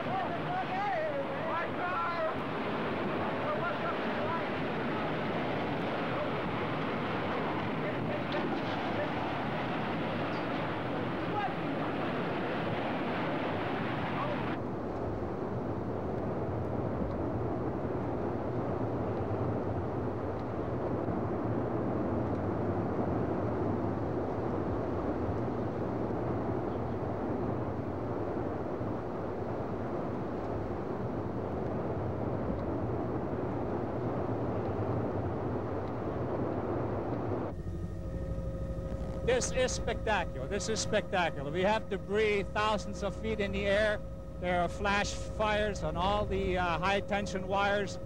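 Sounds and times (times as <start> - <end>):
wind roaring on microphone: 0.0 - 48.0.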